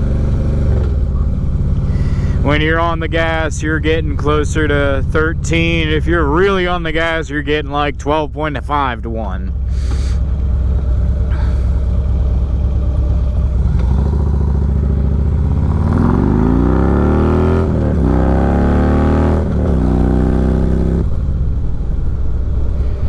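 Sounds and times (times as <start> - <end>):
motorcycle engine accelerating: 0.0 - 8.9, 9.5 - 23.0.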